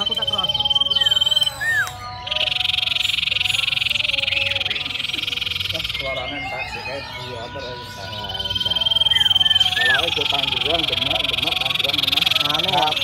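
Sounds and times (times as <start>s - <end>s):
bird whistle and rattling trill: 0.0s - 13.0s.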